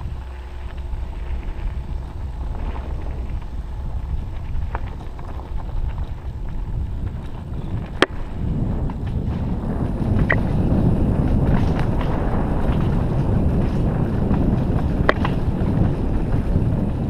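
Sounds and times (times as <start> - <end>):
bike rattles and clicks: 0.0 - 17.0
bike tyres on gravel: 0.0 - 17.0
wind on microphone: 0.0 - 17.0.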